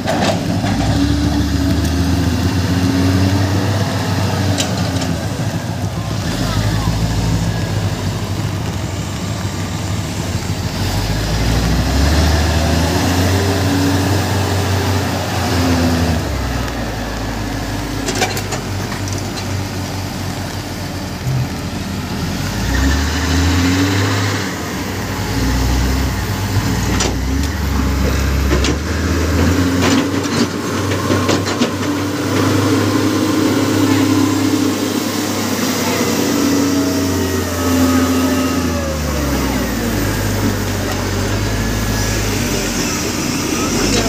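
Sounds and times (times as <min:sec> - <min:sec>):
diesel engines working under load: 0:00.0 - 0:44.0.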